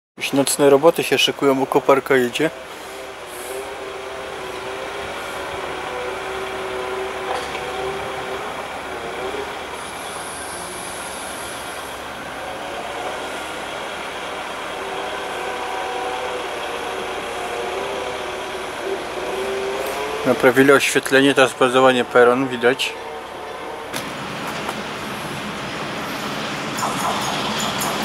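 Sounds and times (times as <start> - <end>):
excavator engine whining: 1.2 - 28.0.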